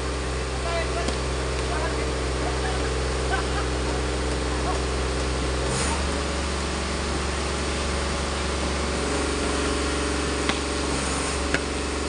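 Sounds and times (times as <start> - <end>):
outdoor ambient rumble: 0.0 - 12.0.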